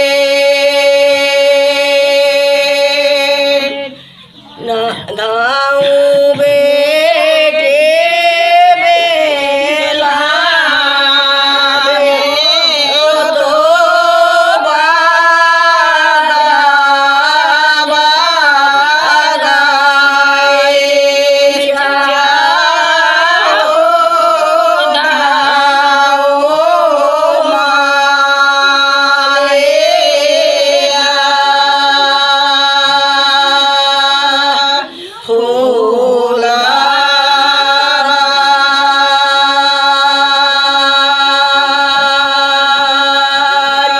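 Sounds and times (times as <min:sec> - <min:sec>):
women singing folk song: 0:00.0 - 0:43.9.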